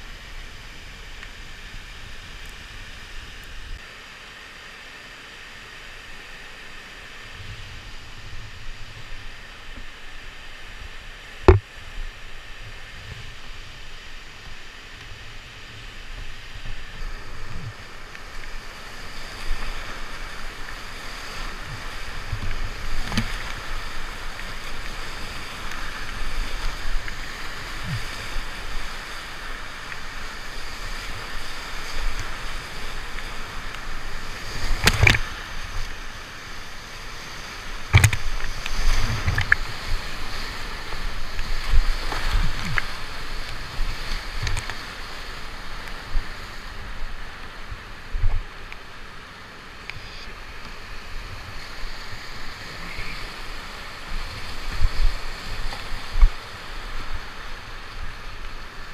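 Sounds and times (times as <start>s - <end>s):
whitewater rapids rushing: 0.0s - 58.9s.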